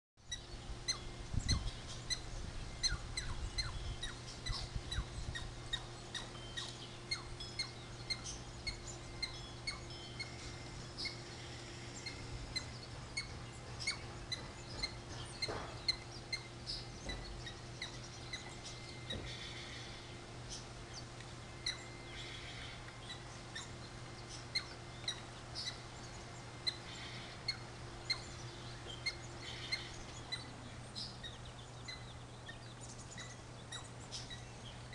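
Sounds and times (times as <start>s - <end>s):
small birds chirping: 0.2s - 34.9s
steady low hum: 0.2s - 34.9s.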